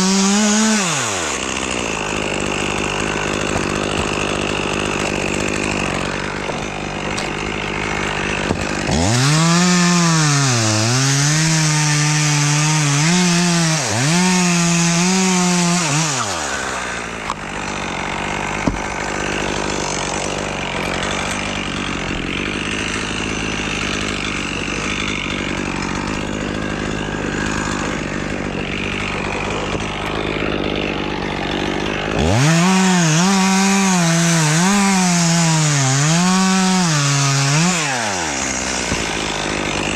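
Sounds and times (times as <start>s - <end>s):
chainsaw idling and cutting wood: 0.0s - 39.9s.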